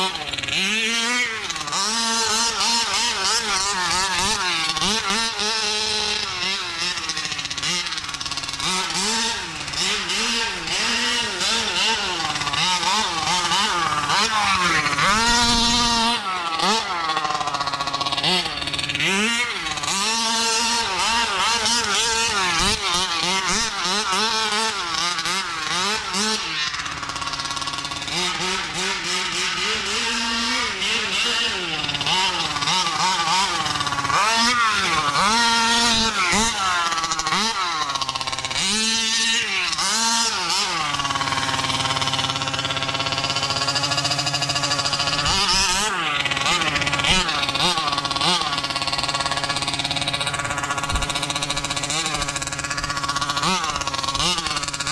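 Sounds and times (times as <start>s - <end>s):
two-stroke engine revving: 0.0s - 54.9s.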